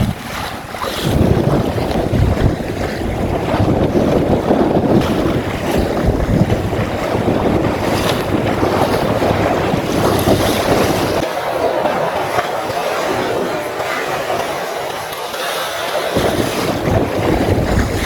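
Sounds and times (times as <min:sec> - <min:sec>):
water splashing along boat hull: 0:00.0 - 0:18.0
wind buffeting microphone: 0:00.0 - 0:18.0.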